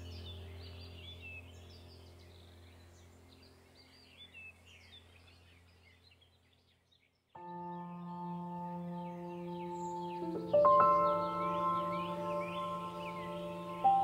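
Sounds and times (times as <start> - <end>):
low steady drone: 0.0 - 5.8, 7.4 - 14.0
birds chirping: 0.0 - 14.0.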